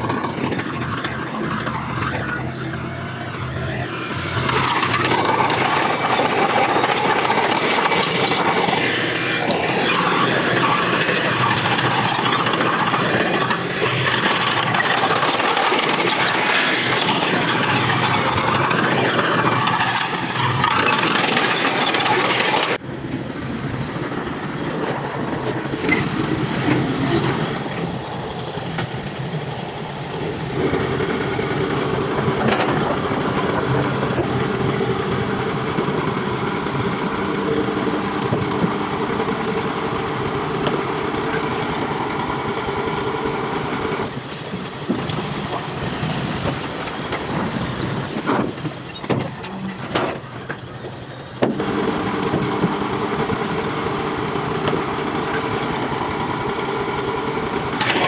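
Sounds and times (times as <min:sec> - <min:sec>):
diesel machinery clattering: 0:00.0 - 0:58.0
steady engine hum: 0:00.0 - 0:58.0.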